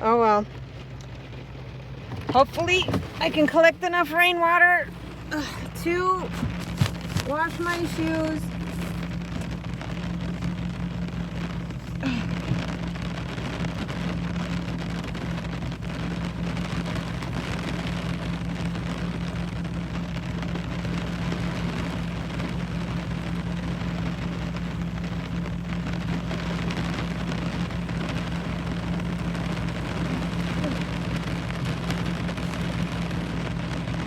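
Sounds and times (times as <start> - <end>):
car engine idling: 0.0 - 34.0
rain pattering: 0.0 - 34.0.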